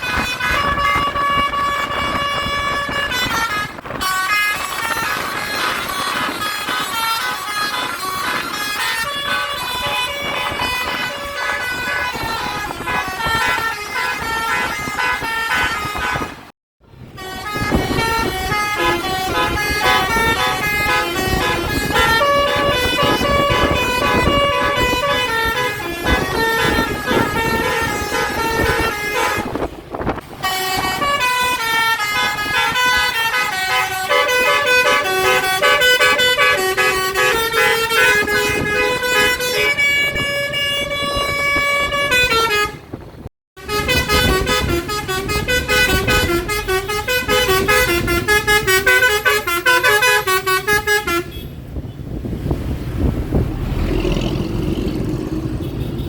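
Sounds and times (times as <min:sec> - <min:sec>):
bus horn trumpets melody: 0:00.0 - 0:29.8, 0:30.4 - 0:43.0, 0:43.6 - 0:51.7.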